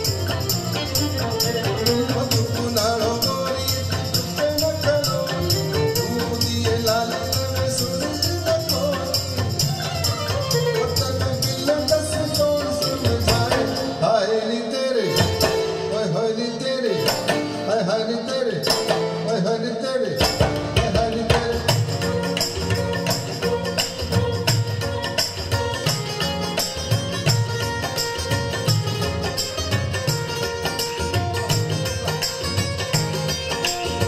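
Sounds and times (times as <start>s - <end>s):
hand percussion beat: 0.0s - 14.1s, 15.1s - 15.9s, 17.0s - 17.7s, 18.6s - 19.3s, 20.2s - 34.0s.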